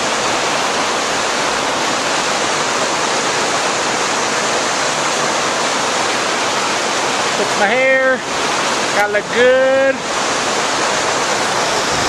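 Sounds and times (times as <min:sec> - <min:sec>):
stream rushing water: 0:00.0 - 0:12.0.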